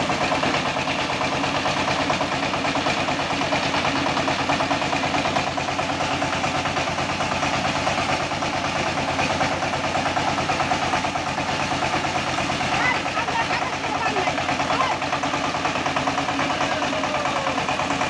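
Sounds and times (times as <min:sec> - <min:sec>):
diesel engine running: 0:00.0 - 0:18.0
rice-hulling mill running: 0:00.0 - 0:18.0.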